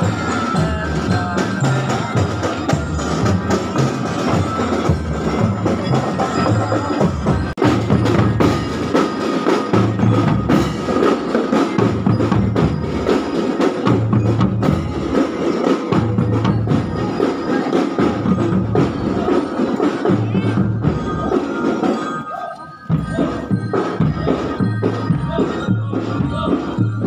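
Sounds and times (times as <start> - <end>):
percussion marching music: 0.0 - 27.0.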